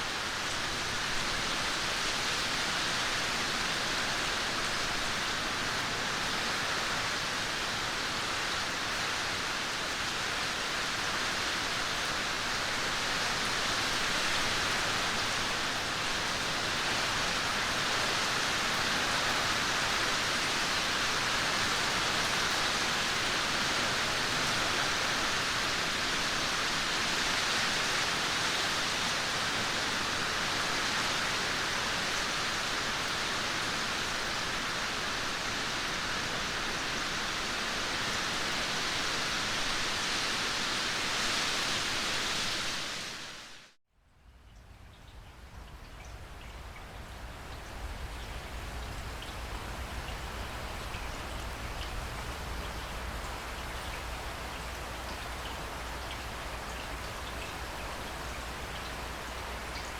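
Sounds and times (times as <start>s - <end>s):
steady rainfall hiss: 0.0s - 59.9s.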